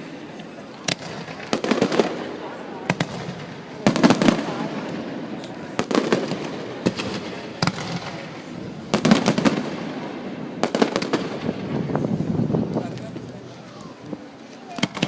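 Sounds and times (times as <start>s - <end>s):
fireworks crackling: 0.0s - 15.0s
fireworks bangs: 0.8s - 13.2s, 14.7s - 15.0s.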